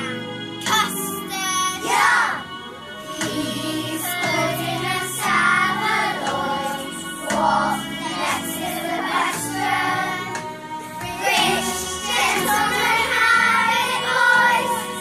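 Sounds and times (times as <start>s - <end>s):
children singing together: 0.0s - 2.5s, 3.1s - 15.0s
musical accompaniment: 0.0s - 15.0s.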